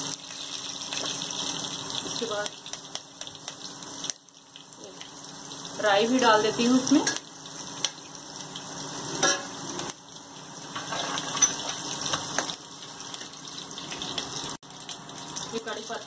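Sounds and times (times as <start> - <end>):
seeds sizzling in hot fat: 0.0 - 16.0.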